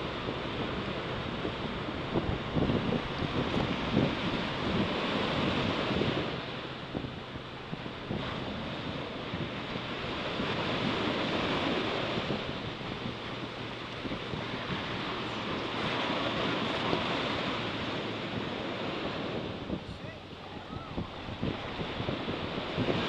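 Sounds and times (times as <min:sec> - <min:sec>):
sea surf breaking on beach: 0:00.0 - 0:23.0
wind buffeting microphone: 0:00.0 - 0:23.0.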